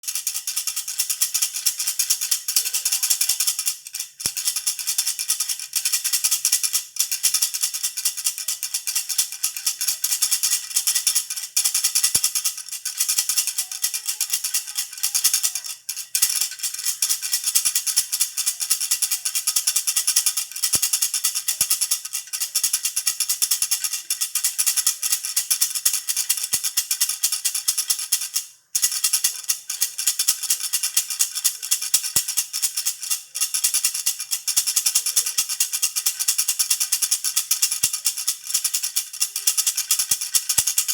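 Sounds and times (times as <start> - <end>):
baby rattle shaken rapidly: 0.0 - 40.9.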